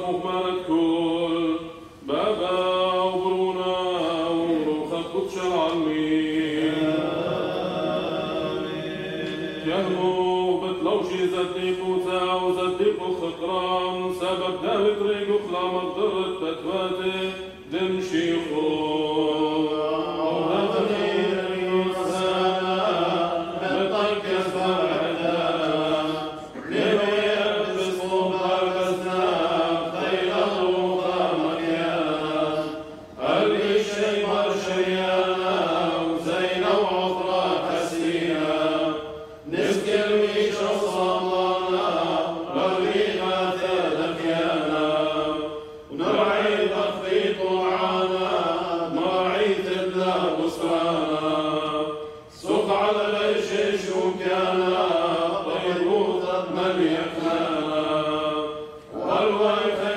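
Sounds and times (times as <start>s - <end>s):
clergy chanting a prayer: 0.0s - 59.9s.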